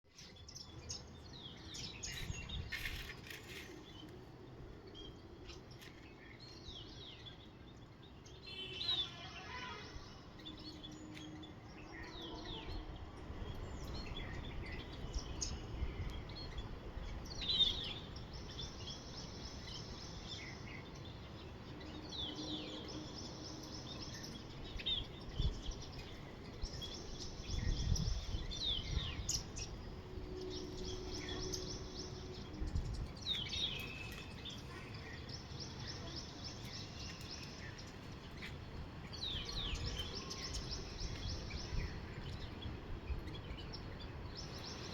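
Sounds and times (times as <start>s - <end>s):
outdoor background noise: 0.0s - 44.9s
birds chirping: 0.1s - 44.9s.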